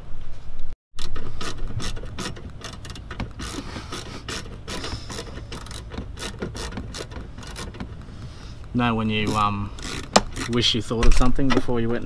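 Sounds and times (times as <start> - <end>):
clicking and ratcheting of hand tools: 1.0 - 11.7.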